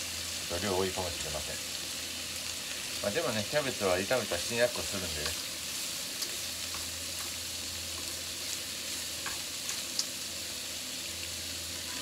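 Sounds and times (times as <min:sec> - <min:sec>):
meat and cabbage sizzling in pan: 0:00.0 - 0:12.0.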